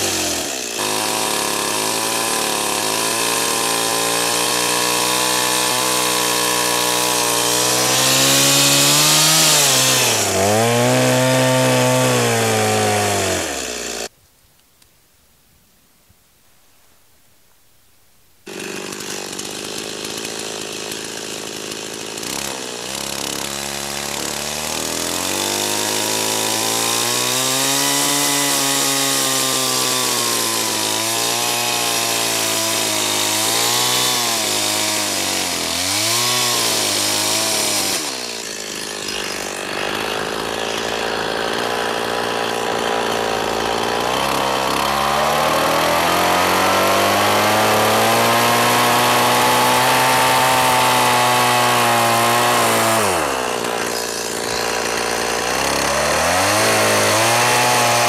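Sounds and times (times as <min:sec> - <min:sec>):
chainsaw cutting into tree trunk: 0:00.0 - 0:14.1, 0:18.4 - 0:58.0.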